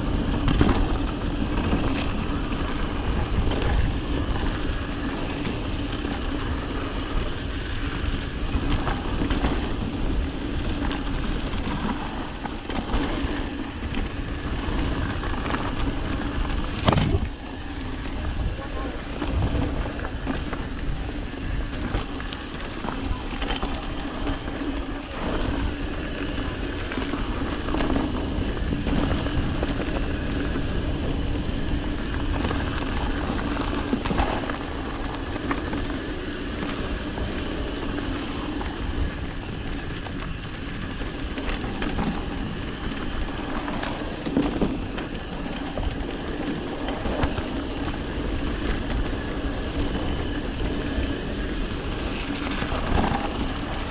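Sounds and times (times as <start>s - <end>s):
bike rattling over bumps: 0.0s - 53.9s
knobby tyres rumbling on dirt: 0.0s - 53.9s.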